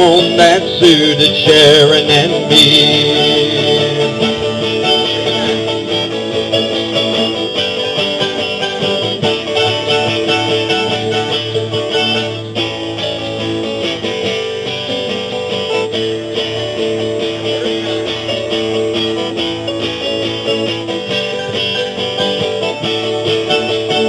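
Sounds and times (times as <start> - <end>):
country band playing live: 0.0 - 24.0
picked acoustic guitar: 0.0 - 24.0.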